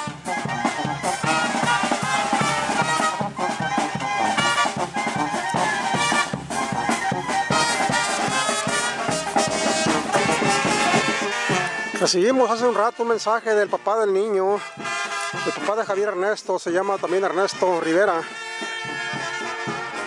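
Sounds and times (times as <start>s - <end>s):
brass band playing cumbia: 0.0s - 20.0s.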